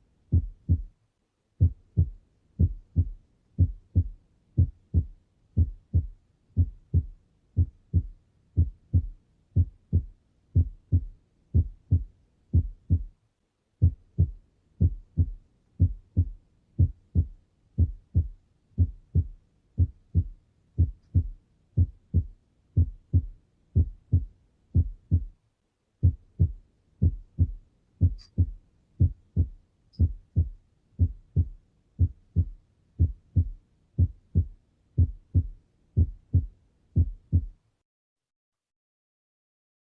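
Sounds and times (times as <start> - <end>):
heartbeat lub-dub thumps: 0.3 - 1.0, 1.6 - 13.2, 13.8 - 25.4, 26.0 - 37.6.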